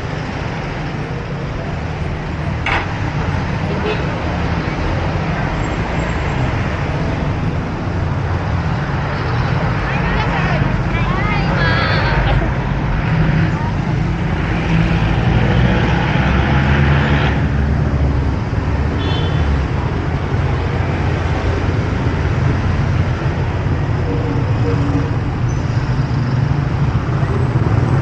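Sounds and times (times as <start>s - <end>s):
street traffic hum: 0.0s - 28.0s.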